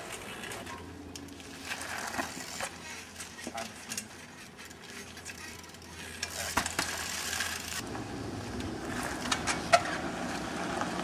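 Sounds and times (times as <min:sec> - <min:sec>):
bike tyres crunching on gravel: 0:00.0 - 0:11.0.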